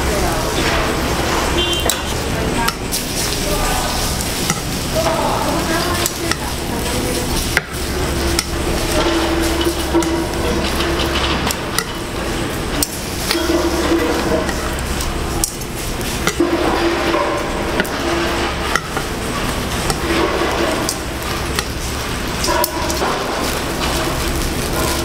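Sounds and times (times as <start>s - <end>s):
low hum of stall noise: 0.0s - 25.0s.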